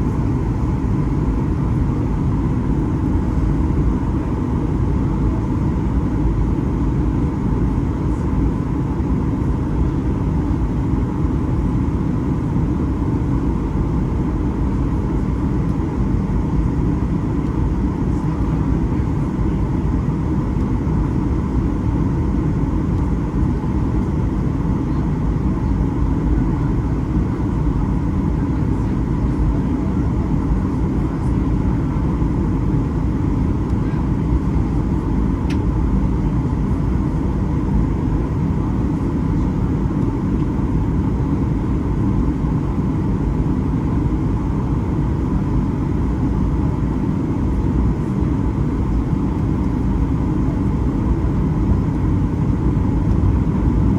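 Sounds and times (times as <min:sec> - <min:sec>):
airliner cabin engine rumble: 0:00.0 - 0:53.9
faint steady hum: 0:00.0 - 0:53.9.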